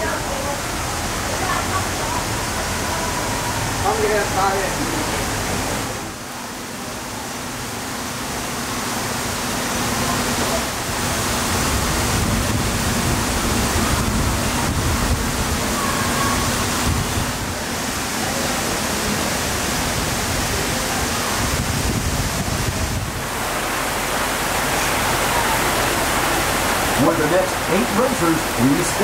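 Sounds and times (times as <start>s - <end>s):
water rushing and splashing: 0.0s - 29.0s.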